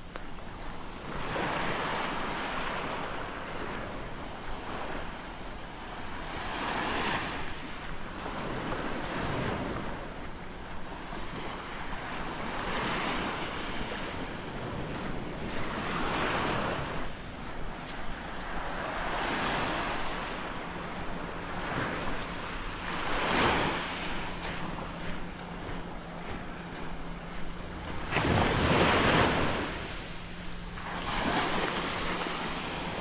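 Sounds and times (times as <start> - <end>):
small waves breaking on beach: 0.0 - 33.0
wind buffeting microphone: 0.0 - 33.0.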